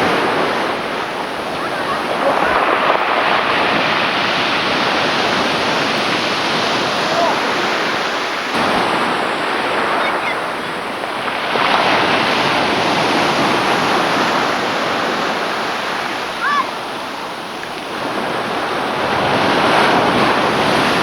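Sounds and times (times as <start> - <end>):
sea surf washing at the shore: 0.0 - 21.0.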